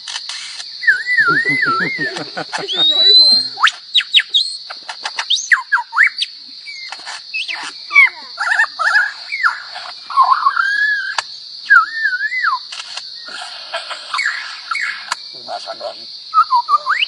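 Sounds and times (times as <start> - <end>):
bird whistling and warbling: 0.8 - 15.1, 16.3 - 17.0.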